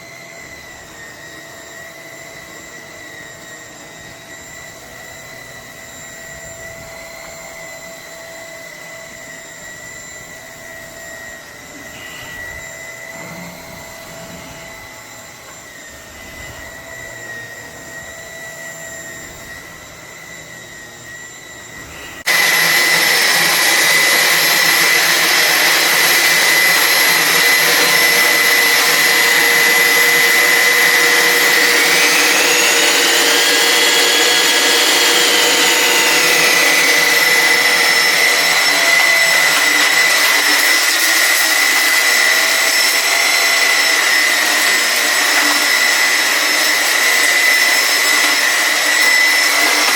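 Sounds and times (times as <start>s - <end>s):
stick vacuum whining: 0.0s - 49.9s.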